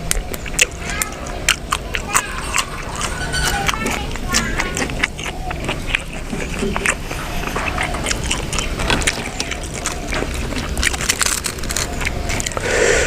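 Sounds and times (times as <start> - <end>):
man chewing and mouth smacking: 0.0 - 13.0.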